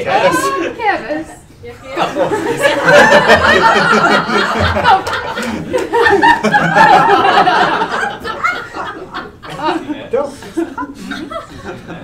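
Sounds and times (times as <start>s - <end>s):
overlapping talk: 0.0s - 12.0s
adults laughing: 2.0s - 12.0s.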